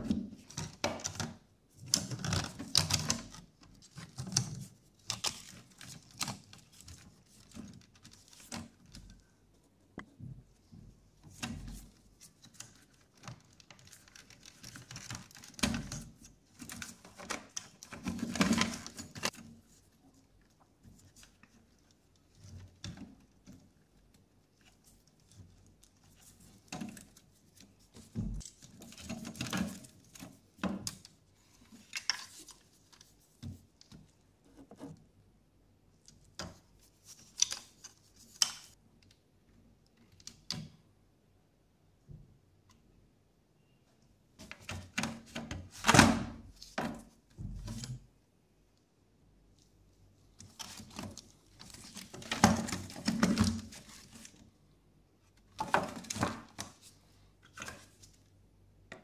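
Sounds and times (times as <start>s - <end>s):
rustling and knocking of parts: 0.0s - 35.2s, 36.0s - 40.8s, 44.4s - 48.1s, 49.5s - 54.6s, 55.2s - 59.0s.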